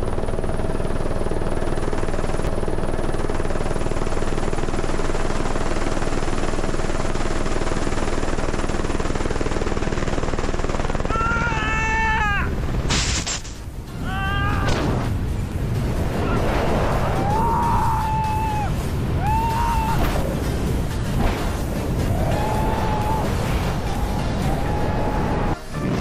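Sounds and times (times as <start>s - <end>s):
helicopter rotor and turbine: 0.0s - 26.0s.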